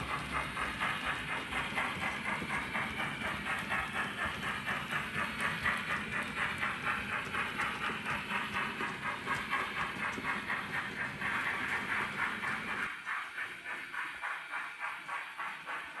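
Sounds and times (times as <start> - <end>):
model steam locomotive chuffs: 0.0 - 16.0.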